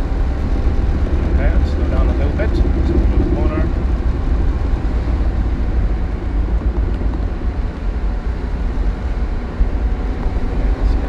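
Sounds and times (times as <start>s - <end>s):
car interior road and engine rumble: 0.0s - 11.0s.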